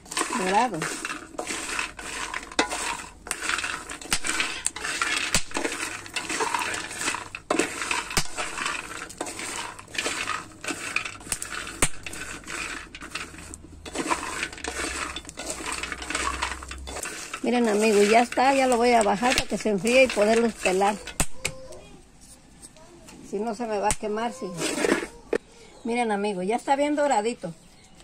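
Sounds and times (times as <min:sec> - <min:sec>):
beans rattling in a pan: 0:00.0 - 0:21.9, 0:23.4 - 0:25.4.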